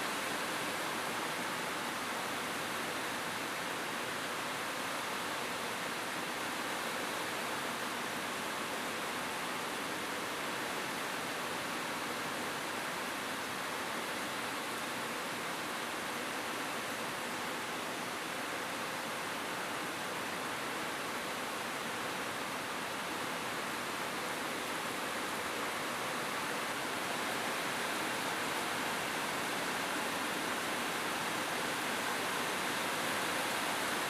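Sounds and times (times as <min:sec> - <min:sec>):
rain falling on a roof: 0:00.0 - 0:34.0.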